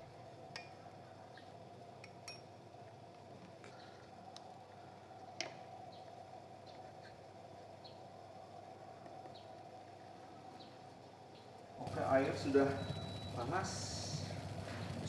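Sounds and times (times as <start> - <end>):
faint steady background hum: 0.0 - 15.0.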